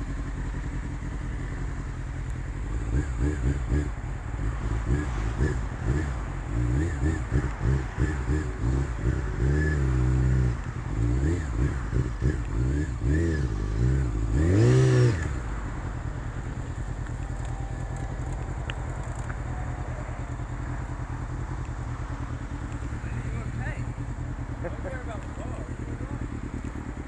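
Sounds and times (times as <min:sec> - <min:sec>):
motorcycle engine revving and idling: 0:00.0 - 0:27.0.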